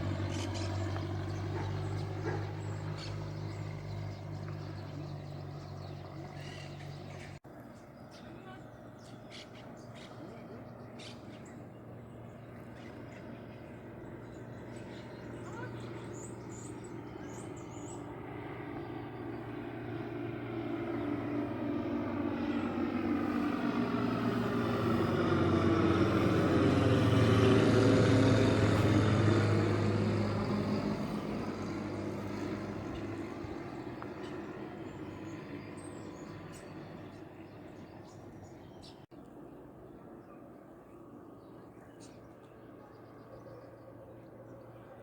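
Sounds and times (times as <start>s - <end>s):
propeller aircraft flying overhead: 0.0s - 45.0s.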